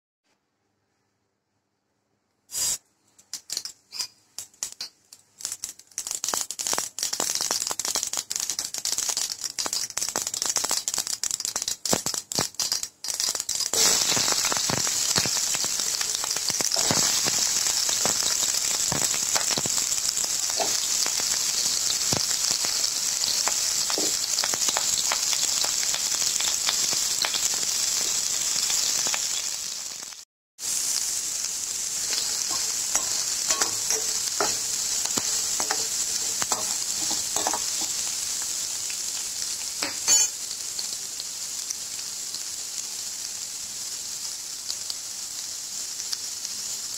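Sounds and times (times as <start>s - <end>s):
onions sizzling in oil: 2.5s - 46.9s
seeds crackling in hot oil: 2.5s - 46.9s.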